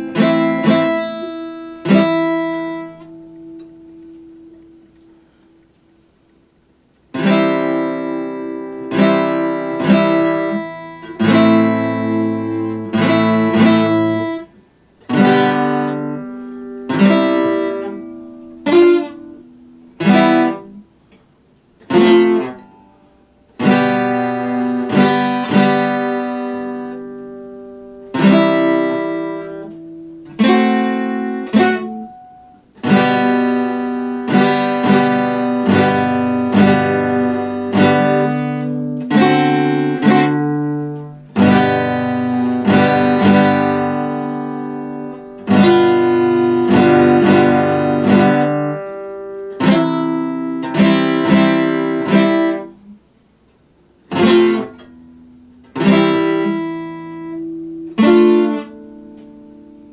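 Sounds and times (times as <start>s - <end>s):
acoustic guitar strummed chords: 0.0s - 59.9s.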